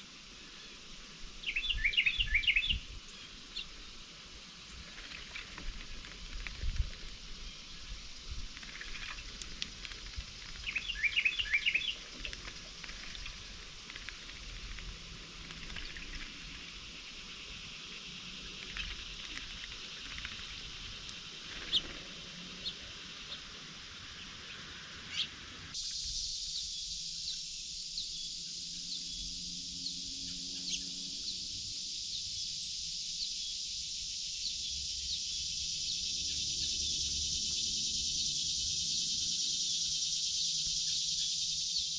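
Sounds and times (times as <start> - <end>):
insect chorus with ticking calls: 0.0 - 41.9
songbird chirping: 0.0 - 41.9.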